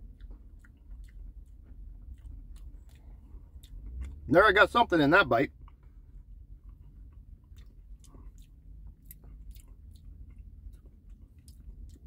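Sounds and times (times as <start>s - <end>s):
chewing ice cream: 0.0s - 4.5s, 5.5s - 12.0s
low steady hum: 0.0s - 12.0s.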